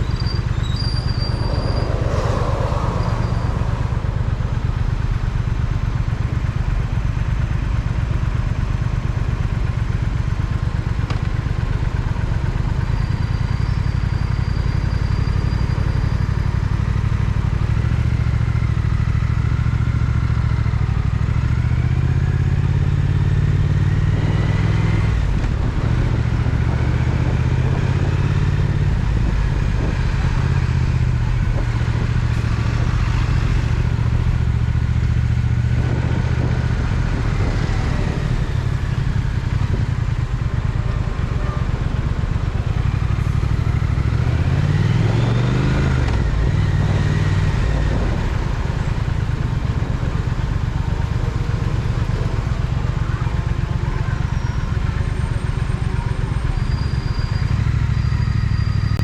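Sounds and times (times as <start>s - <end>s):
motorcycle engine running: 0.0s - 55.2s.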